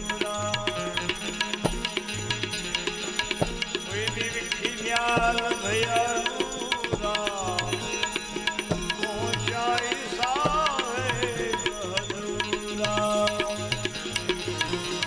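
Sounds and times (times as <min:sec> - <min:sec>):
tabla rhythm: 0:00.0 - 0:15.0.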